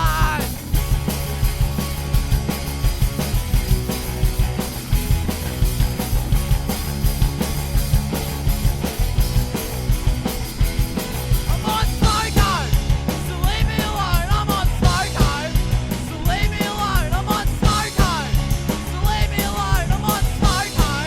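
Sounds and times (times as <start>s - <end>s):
bass: 0.0s - 21.0s
drum beat: 0.0s - 21.0s
rock music: 0.0s - 21.0s.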